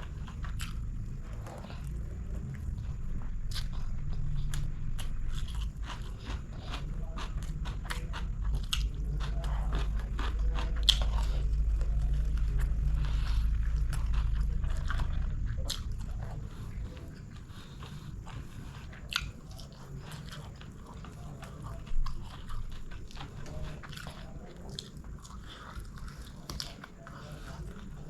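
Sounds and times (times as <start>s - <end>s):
chewing and crunching: 0.0s - 28.0s
steady low hum: 0.0s - 28.0s.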